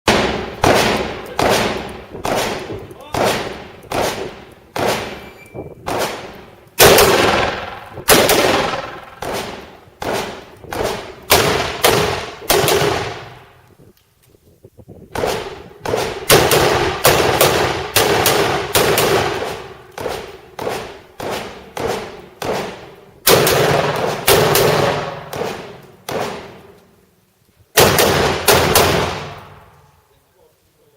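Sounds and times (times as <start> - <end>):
rifle shots with ringing echo: 0.1 - 13.6, 15.2 - 26.8, 27.8 - 29.9.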